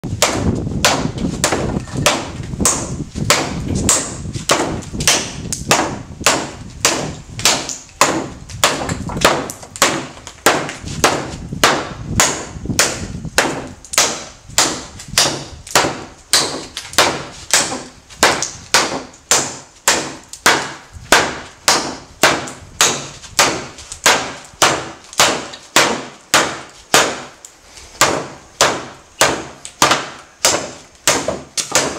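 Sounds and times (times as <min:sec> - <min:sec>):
steel blade chopping wood: 0:00.2 - 0:31.9.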